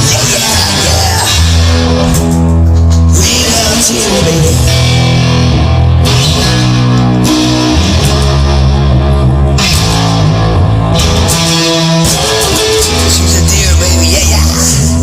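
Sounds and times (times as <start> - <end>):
instrumental rock with guitar: 0.0 - 15.0.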